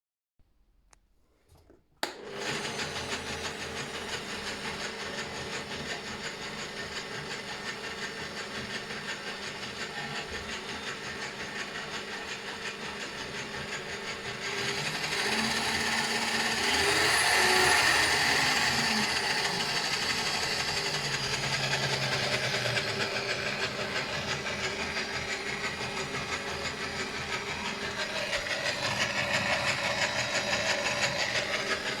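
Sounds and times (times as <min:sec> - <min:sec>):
drill press running with grinding: 0:02.0 - 0:32.0.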